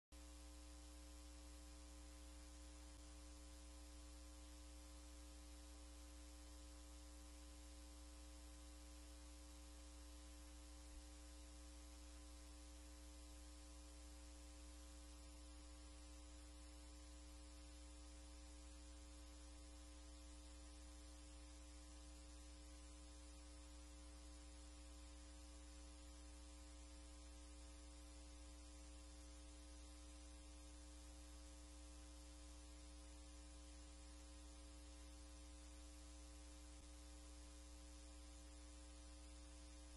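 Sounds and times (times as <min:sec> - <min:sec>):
faint electrical hum: 0:00.1 - 0:39.9.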